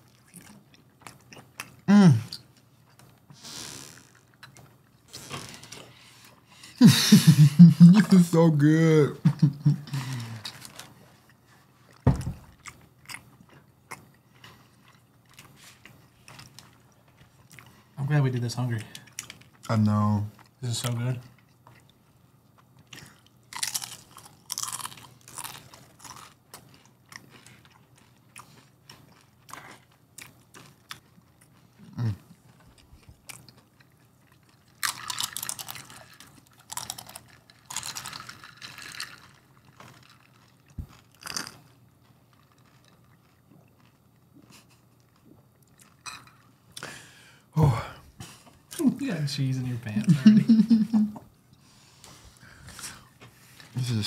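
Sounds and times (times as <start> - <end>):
chewing and crunching food: 0.0 - 6.8, 9.5 - 47.2.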